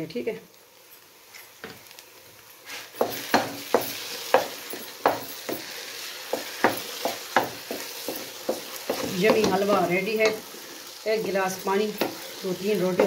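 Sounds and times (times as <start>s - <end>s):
mixture sizzling in oil: 0.0s - 13.0s.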